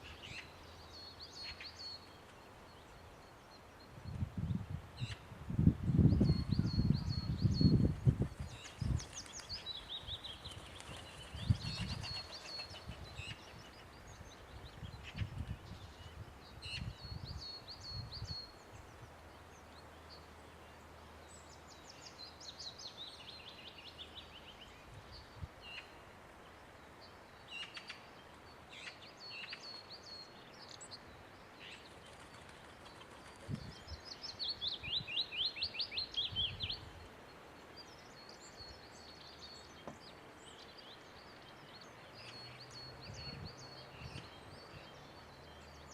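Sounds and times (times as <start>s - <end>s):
songbirds singing and calling: 0.0s - 45.9s.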